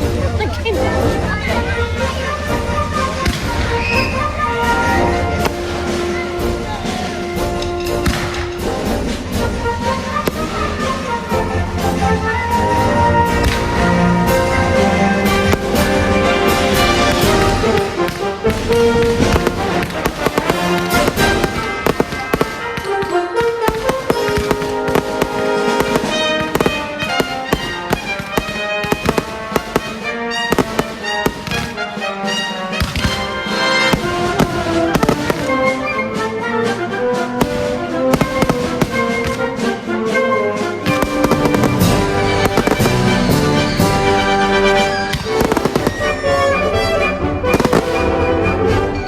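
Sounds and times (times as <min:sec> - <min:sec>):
fireworks bursting and popping: 0:00.0 - 0:49.0
loud orchestral music: 0:00.0 - 0:49.0.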